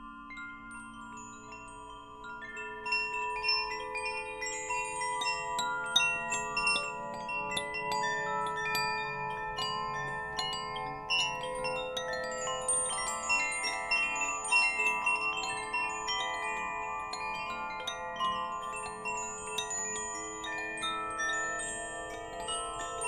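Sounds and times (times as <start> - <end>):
wind chimes tinkling: 0.0 - 23.0.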